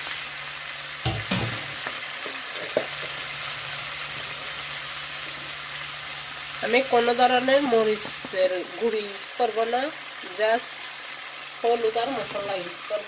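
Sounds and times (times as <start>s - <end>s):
oil sizzling in a frying pan: 0.0s - 13.0s.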